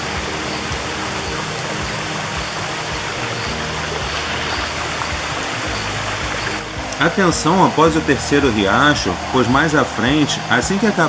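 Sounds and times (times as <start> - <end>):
soft background music: 0.0 - 11.0
stream running over rocks: 0.0 - 11.0.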